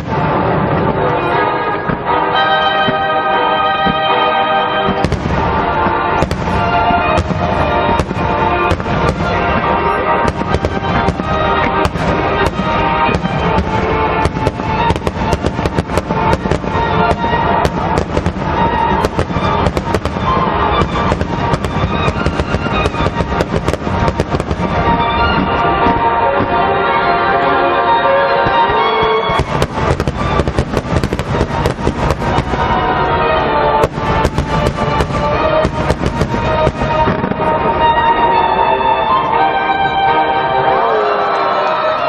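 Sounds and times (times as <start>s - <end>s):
fireworks exploding: 0.0s - 42.0s
music playing: 0.0s - 42.0s.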